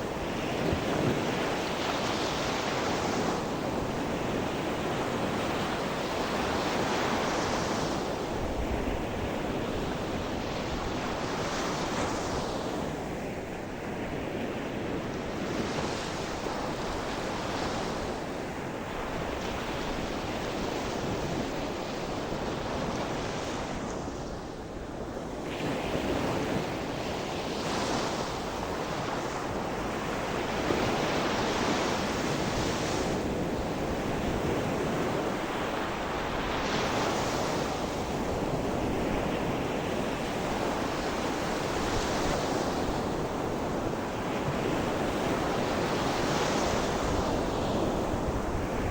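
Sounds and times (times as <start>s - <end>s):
waves breaking on shore: 0.0s - 48.9s.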